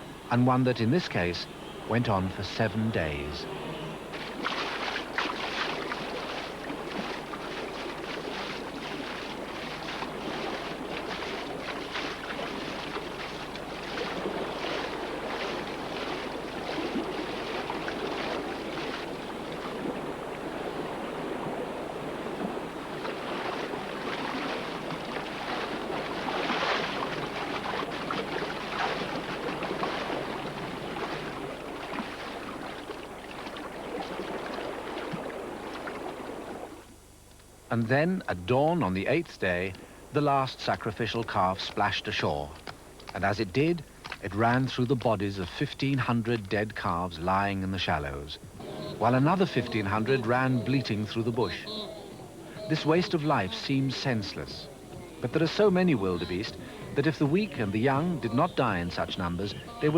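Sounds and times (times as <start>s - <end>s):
animals splashing through water: 0.3s - 37.0s, 39.1s - 59.9s.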